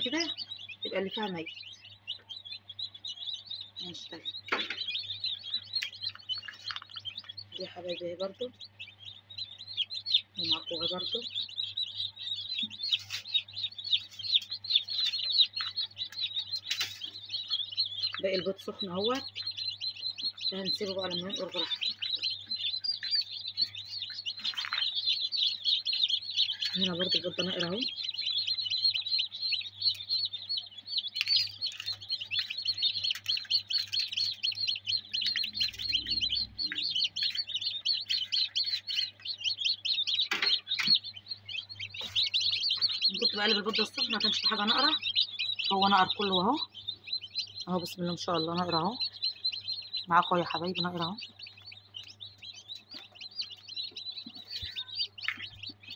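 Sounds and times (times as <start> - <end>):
chicks peeping: 0.0 - 55.9.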